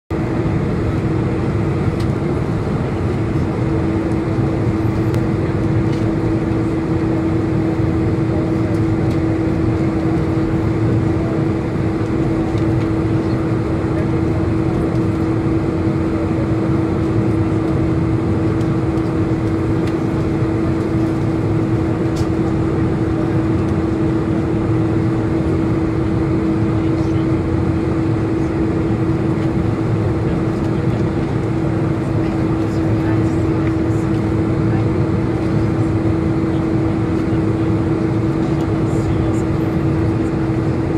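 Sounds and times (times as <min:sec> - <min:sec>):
constant engine whine: 0:00.1 - 0:40.9
jet engine hum at idle: 0:00.1 - 0:40.9.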